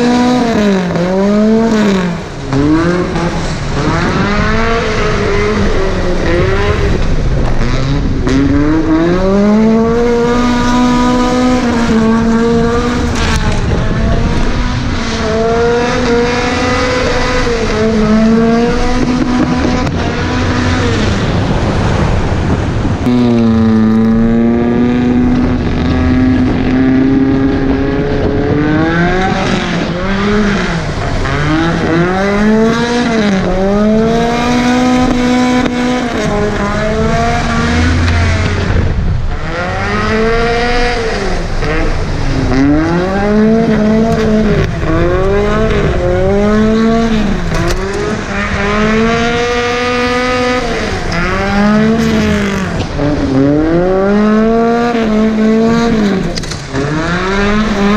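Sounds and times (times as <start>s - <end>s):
car engine revving hard: 0.0s - 57.9s.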